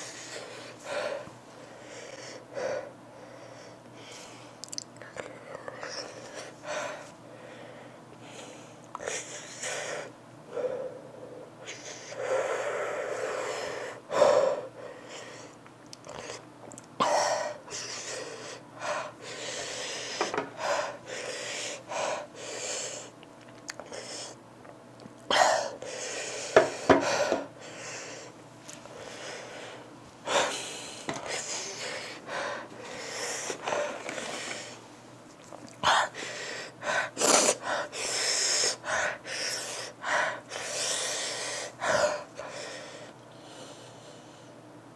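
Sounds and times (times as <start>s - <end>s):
woman breathing heavily: 0.0s - 4.6s, 5.6s - 15.6s, 17.0s - 23.2s, 25.3s - 34.8s, 35.8s - 44.6s.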